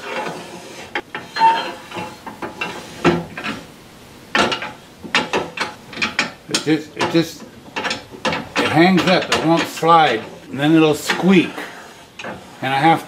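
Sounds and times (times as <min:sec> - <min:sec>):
metal post scraping and clunking: 0:00.0 - 0:13.0.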